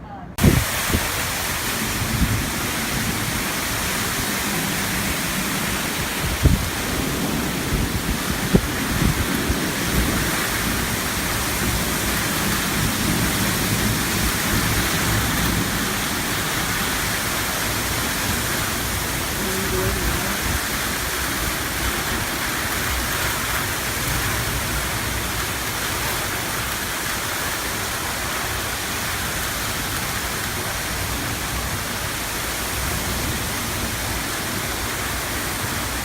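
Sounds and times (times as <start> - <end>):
strong wind: 0.0 - 36.0
heavy rain: 0.2 - 36.0.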